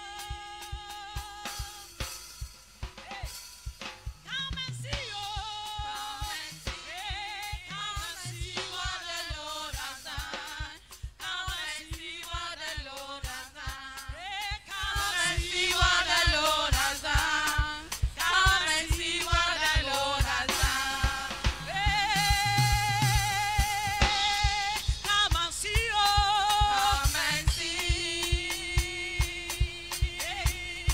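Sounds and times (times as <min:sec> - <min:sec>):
women singing gospel song: 0:00.0 - 0:02.3, 0:02.9 - 0:03.4, 0:04.2 - 0:30.9
band with drum beat: 0:00.0 - 0:30.9.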